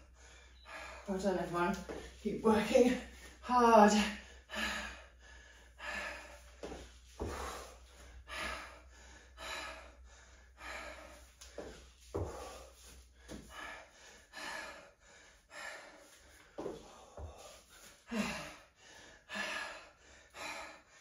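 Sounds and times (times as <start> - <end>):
woman breathing hard: 0.0 - 1.1, 4.0 - 21.0.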